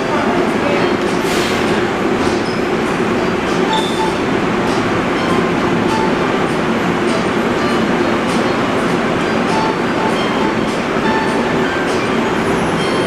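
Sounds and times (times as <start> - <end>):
people mover train rumble: 0.0 - 13.0.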